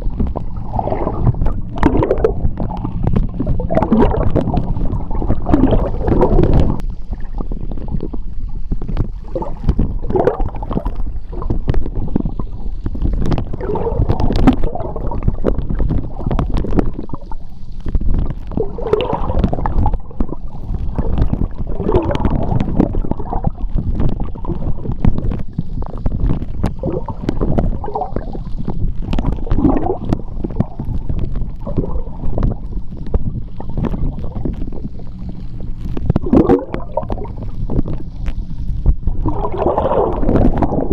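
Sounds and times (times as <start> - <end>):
small clicks and pops: 0.0 - 40.9
underwater seawater churning: 0.0 - 40.9
water gurgling: 0.0 - 40.9.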